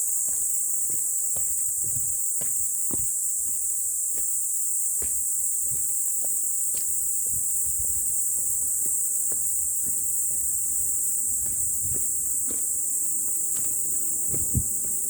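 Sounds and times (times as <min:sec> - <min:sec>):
high-pitched insect chorus: 0:00.0 - 0:15.0
soft footsteps: 0:00.1 - 0:15.0.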